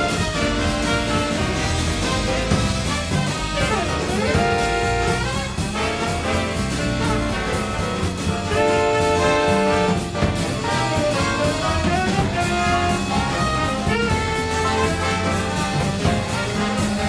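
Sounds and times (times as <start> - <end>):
brass music over steady beat: 0.0 - 17.0.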